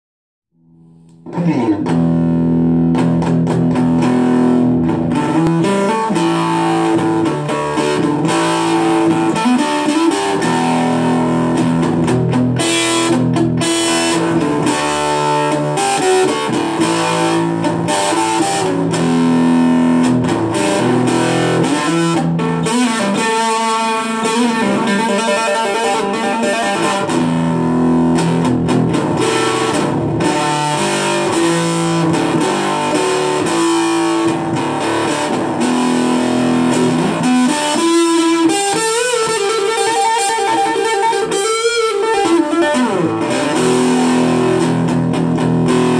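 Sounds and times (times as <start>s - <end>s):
electric guitar playing: 0.6s - 45.9s.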